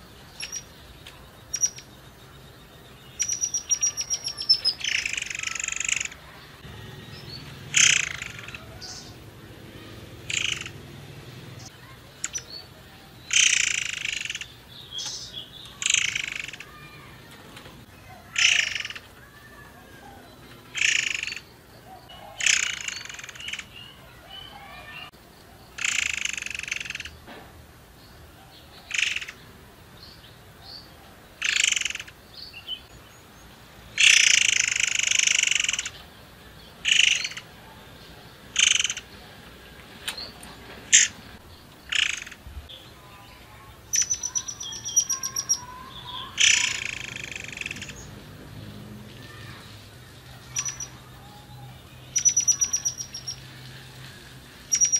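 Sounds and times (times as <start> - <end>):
songbird calling in harsh bursts: 0.0 - 11.0, 11.6 - 17.2, 18.0 - 25.1, 25.7 - 27.2, 28.8 - 29.4, 31.4 - 32.9, 33.9 - 37.6, 38.5 - 39.2, 40.1 - 48.2, 49.1 - 54.9.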